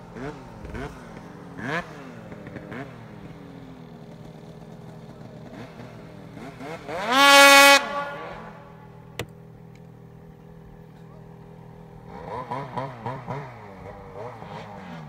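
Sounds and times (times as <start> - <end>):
snowmobile engine revving: 0.0 - 9.0, 11.9 - 15.0.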